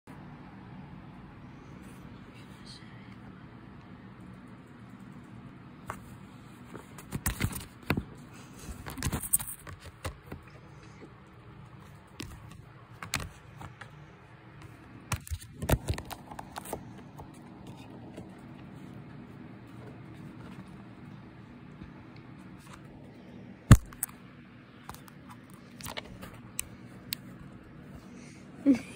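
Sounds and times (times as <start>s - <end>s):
faint steady hum: 0.1s - 28.9s.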